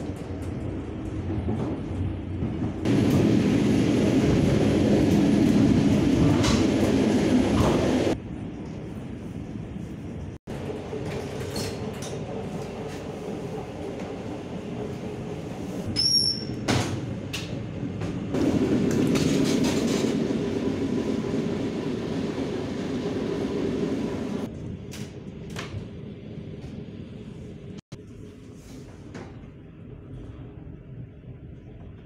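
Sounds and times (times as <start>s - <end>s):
diesel train rumble and hum: 0.0s - 32.0s.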